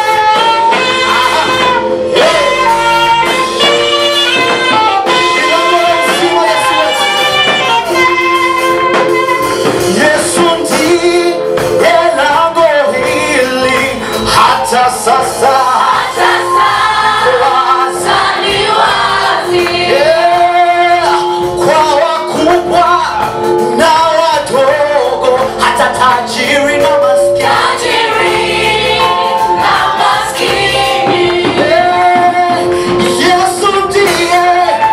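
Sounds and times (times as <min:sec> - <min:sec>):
choir singing gospel song: 0:00.0 - 0:34.9.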